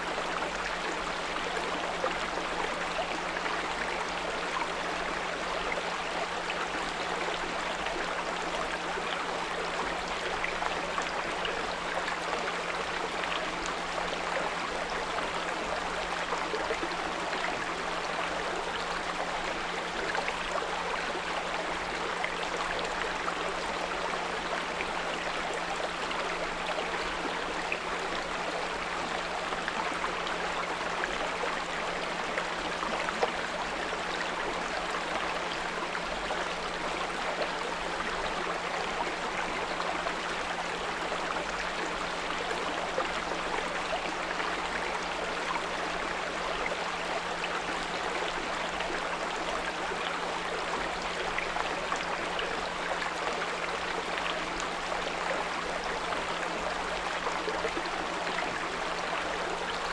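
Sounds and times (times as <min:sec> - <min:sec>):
brook water babbling: 0:00.0 - 0:59.9.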